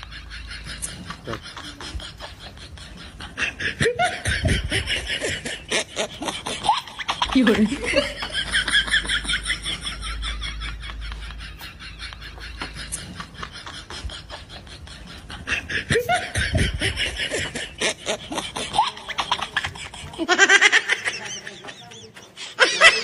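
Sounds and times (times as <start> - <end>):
laughter in quick pulses: 0.0 - 23.0.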